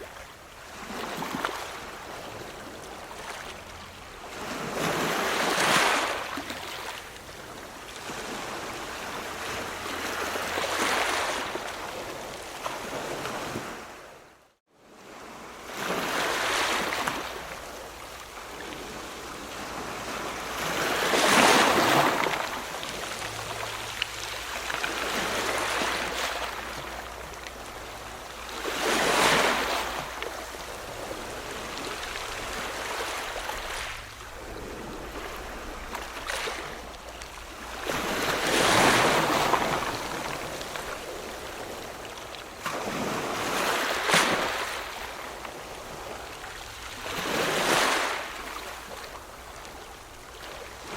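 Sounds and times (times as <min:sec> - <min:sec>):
ocean waves crashing: 0:00.0 - 0:14.1, 0:15.1 - 0:50.9.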